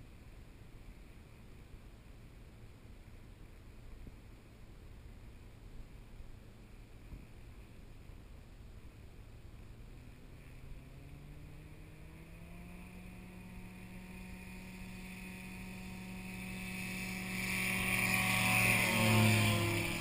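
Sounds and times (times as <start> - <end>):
light aircraft engine and propeller: 0.0 - 20.0.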